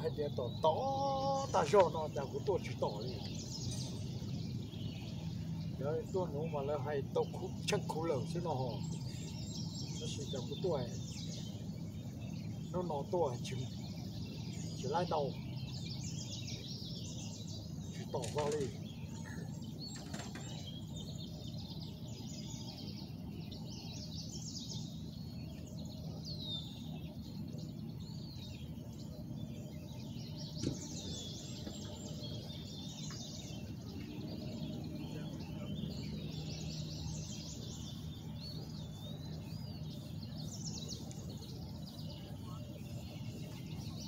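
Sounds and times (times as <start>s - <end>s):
low background rumble: 0.0s - 44.0s
songbirds chirping: 0.0s - 44.0s.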